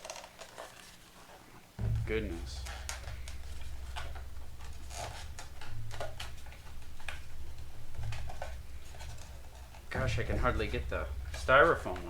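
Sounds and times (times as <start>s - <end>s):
low hum: 1.8s - 12.0s.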